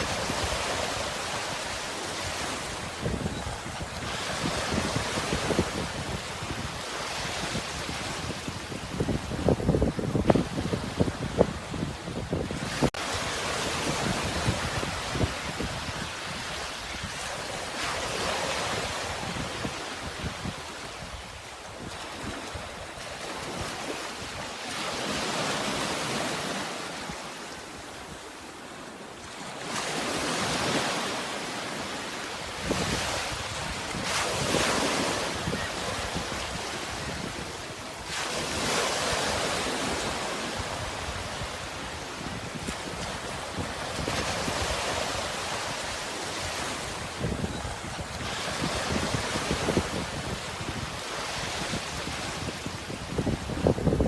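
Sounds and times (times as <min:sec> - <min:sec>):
sea waves washing in: 0:00.0 - 0:54.0
wind: 0:00.0 - 0:54.0.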